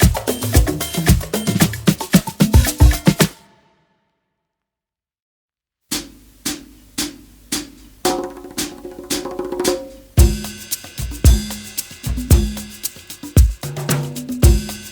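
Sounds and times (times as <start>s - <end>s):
drum kit playing: 0.0s - 3.6s, 5.9s - 14.9s
percussive hits: 0.0s - 3.6s, 5.9s - 14.9s.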